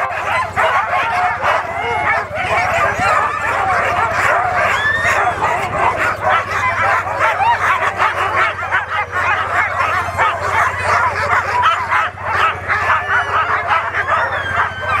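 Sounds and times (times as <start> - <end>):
sled dogs barking and whining: 0.0 - 15.0.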